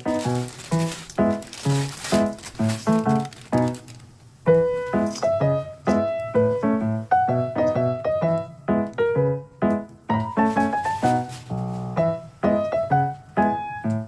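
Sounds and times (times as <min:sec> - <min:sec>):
light piano tune: 0:00.0 - 0:14.0.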